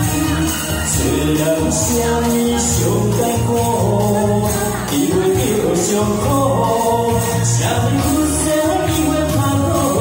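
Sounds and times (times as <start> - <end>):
loud backing track: 0.0 - 10.0
man singing into microphone: 0.0 - 10.0.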